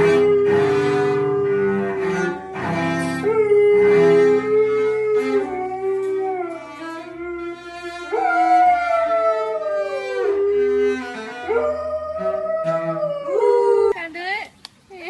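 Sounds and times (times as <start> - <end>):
cello being bowed: 0.0 - 14.0
dog howling: 0.0 - 14.0.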